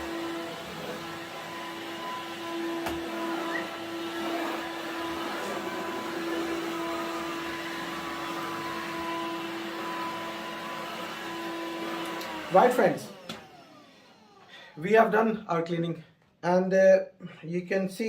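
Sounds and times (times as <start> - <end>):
vacuum cleaner motor whine: 0.0 - 14.8.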